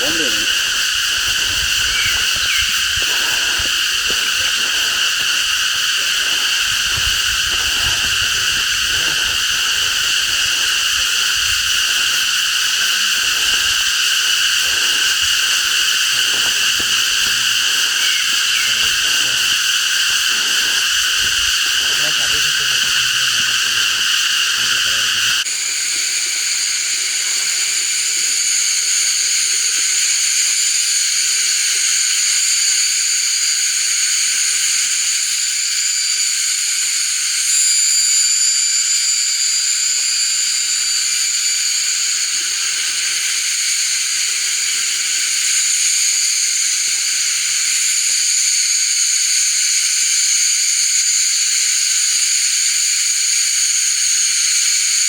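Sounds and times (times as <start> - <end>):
forest insects chorus: 0.0 - 55.0.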